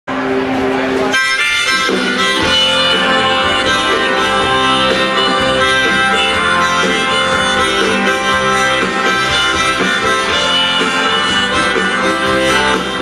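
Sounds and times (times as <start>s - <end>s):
drums: 0.1s - 13.0s
electric bass: 0.1s - 13.0s
held melody line: 1.1s - 13.0s.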